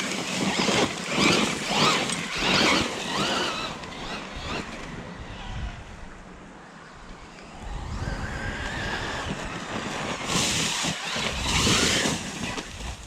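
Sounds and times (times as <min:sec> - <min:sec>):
electric motor whining: 0:00.0 - 0:06.2, 0:07.4 - 0:13.0.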